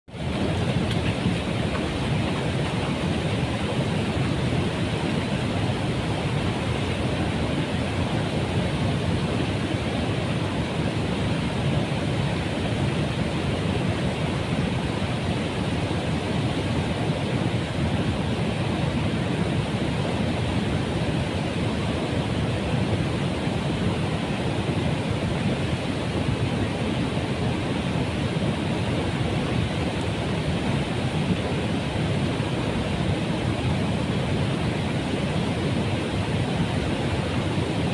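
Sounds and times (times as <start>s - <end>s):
water rushing over weir: 0.1s - 37.9s.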